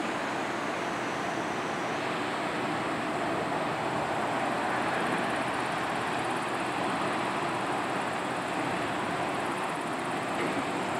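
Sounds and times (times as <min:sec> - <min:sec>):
ship wake water rushing: 0:00.0 - 0:10.9.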